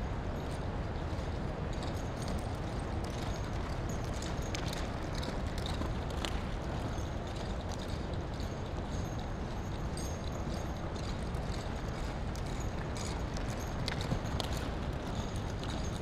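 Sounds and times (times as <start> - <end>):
hoofbeats on soft dirt: 0.1 - 16.0.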